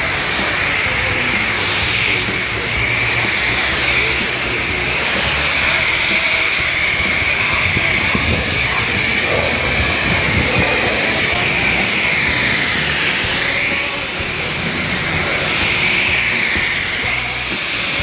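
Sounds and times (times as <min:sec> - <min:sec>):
loud wavering hiss: 0:00.0 - 0:18.0.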